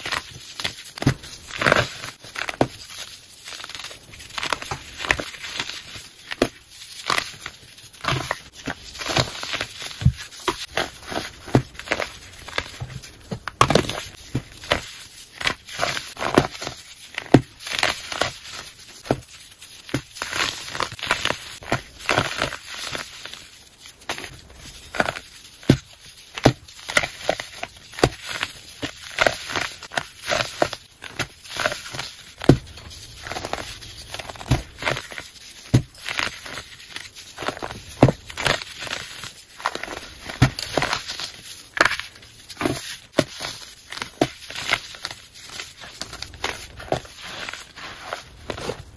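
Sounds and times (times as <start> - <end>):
hands crunching baking soda: 0.0 - 48.9.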